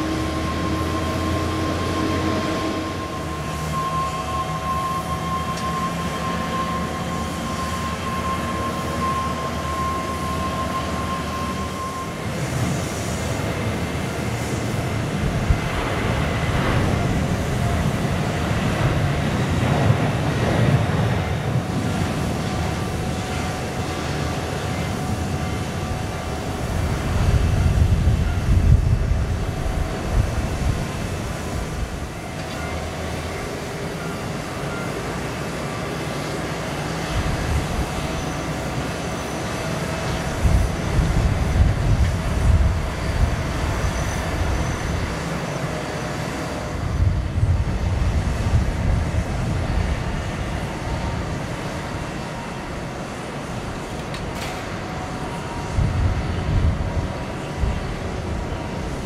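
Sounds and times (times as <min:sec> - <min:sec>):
jet aircraft rumble: 0:00.0 - 0:59.0.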